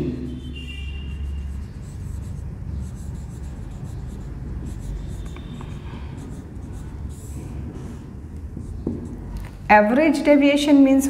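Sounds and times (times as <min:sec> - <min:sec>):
steady low hum: 0:00.0 - 0:10.6
marker writing on whiteboard: 0:00.3 - 0:09.6.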